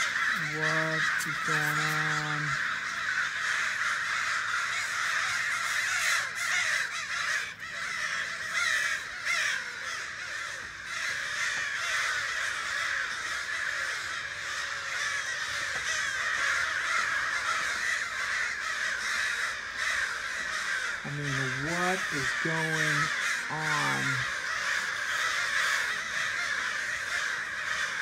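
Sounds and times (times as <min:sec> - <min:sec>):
crows cawing: 0:00.0 - 0:28.0.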